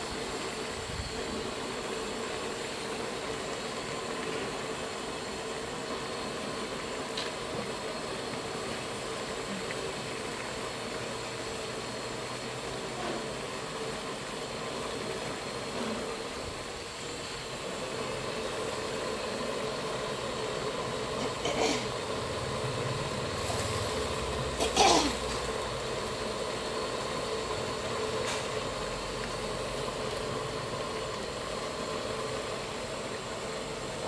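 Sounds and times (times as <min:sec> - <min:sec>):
food frying in wok: 0:00.0 - 0:34.0
gas burner roaring: 0:00.0 - 0:34.0.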